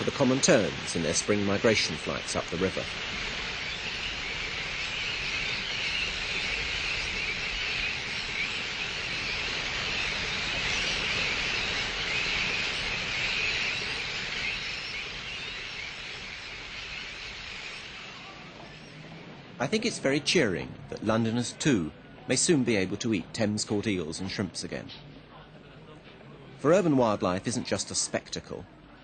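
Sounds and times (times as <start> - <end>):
many birds chattering: 0.0 - 25.4
background hiss: 0.0 - 29.0.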